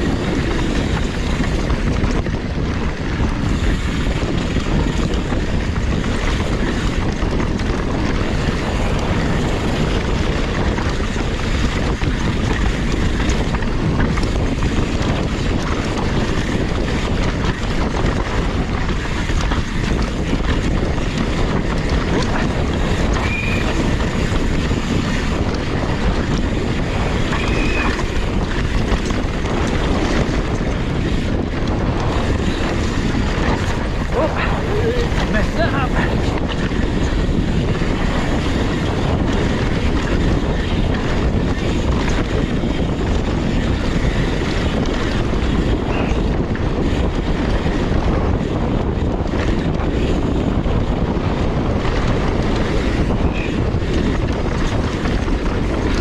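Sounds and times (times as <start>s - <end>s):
bike rattling and knocking: 0.0s - 56.0s
wind rush on microphone: 0.0s - 56.0s.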